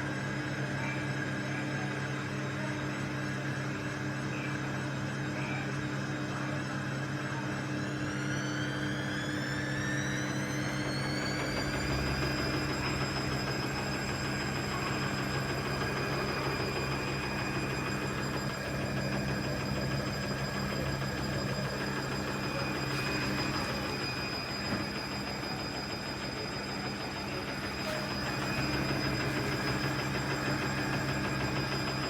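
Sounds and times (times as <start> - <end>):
washing machine motor whining: 0.0 - 32.0.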